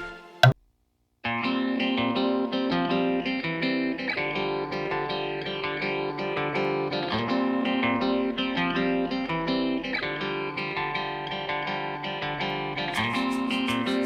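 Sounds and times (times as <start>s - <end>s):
upbeat plucked guitar music: 0.0s - 0.6s, 1.2s - 14.0s.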